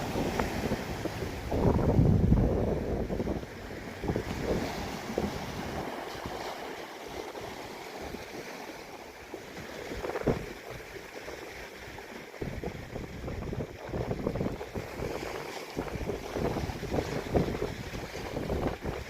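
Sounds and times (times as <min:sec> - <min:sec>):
wind buffeting microphone: 0:00.0 - 0:08.5, 0:09.5 - 0:19.0
surf rushing: 0:00.0 - 0:11.3, 0:12.0 - 0:19.0.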